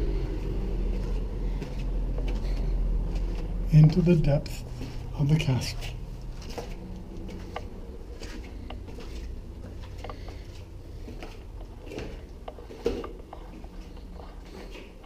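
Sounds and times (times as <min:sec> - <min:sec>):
footsteps walking: 0:00.3 - 0:15.0.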